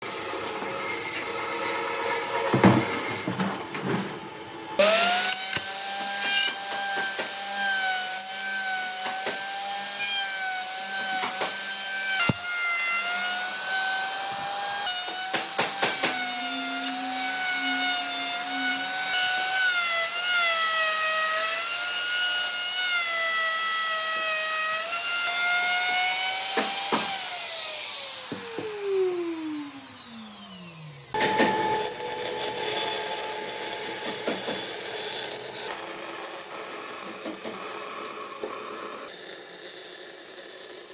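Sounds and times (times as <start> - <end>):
power tool cutting wood: 0.0 - 40.9.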